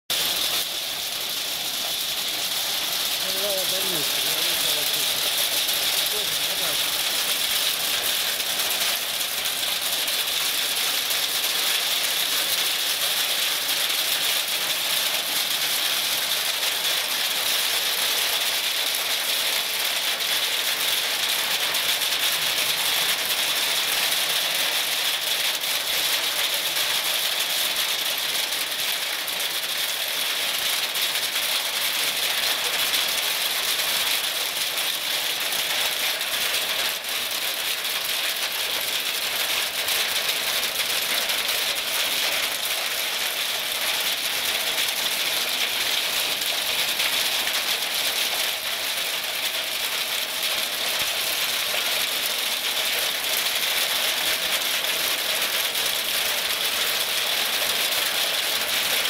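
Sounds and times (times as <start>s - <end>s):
heavy rain and hail on roof: 0.1s - 59.0s.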